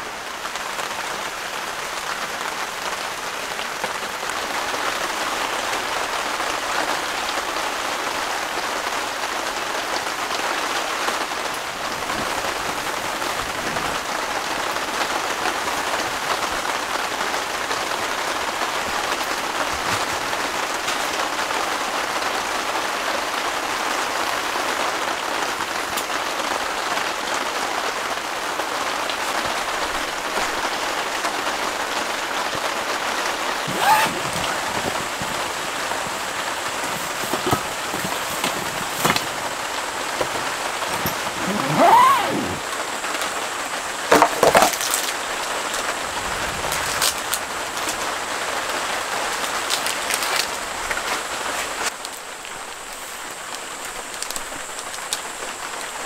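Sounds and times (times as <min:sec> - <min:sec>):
rain on a tent: 0:00.0 - 0:56.0.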